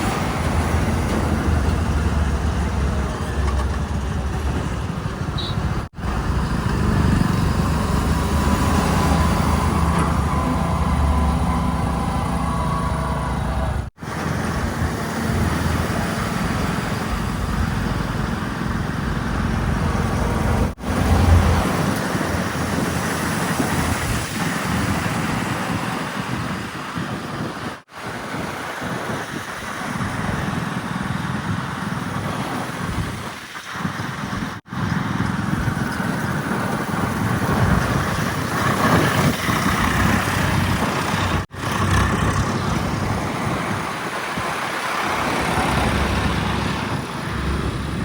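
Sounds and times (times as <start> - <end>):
heavy machinery diesel engines: 0.0 - 48.0.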